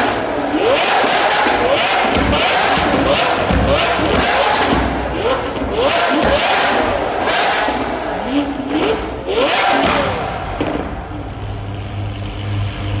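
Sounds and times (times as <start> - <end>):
sports car engine revving: 0.0 - 13.0
car engine idling: 1.4 - 13.0.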